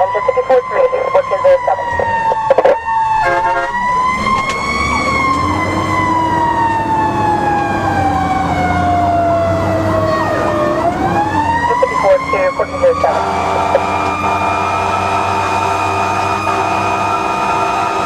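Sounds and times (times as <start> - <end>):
fire engine siren wailing: 0.0 - 18.0
truck engine droning: 0.0 - 18.0.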